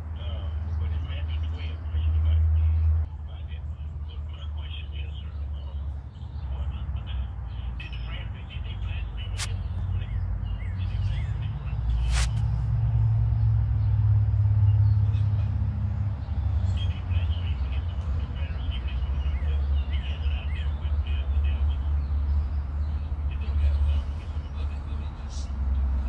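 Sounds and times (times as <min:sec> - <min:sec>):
low engine rumble: 0:00.0 - 0:26.0
bird chirps: 0:00.2 - 0:25.4.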